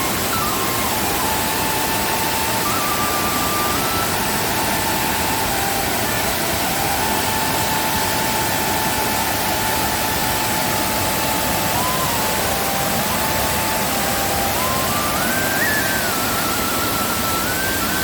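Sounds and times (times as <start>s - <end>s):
faint thin wavering tone: 0.0s - 18.0s
waterfall rushing: 0.0s - 18.0s.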